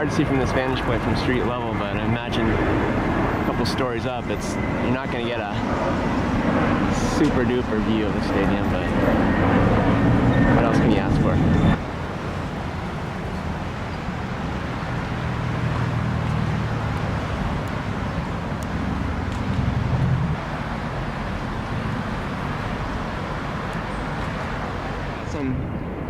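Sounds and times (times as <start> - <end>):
low engine rumble: 0.0 - 26.0
passing cars hum: 0.0 - 26.0.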